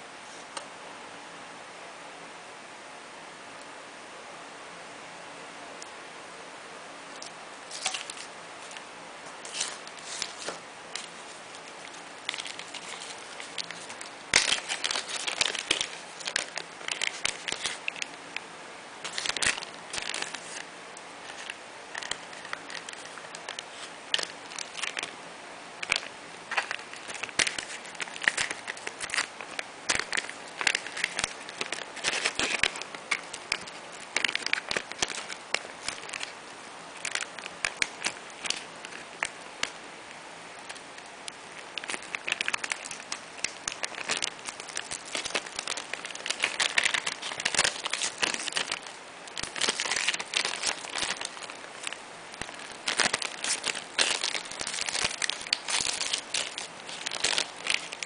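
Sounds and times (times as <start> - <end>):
plastic bag crinkling: 7.7 - 8.8, 9.4 - 18.2, 19.0 - 25.1, 25.8 - 39.9, 40.6 - 58.0.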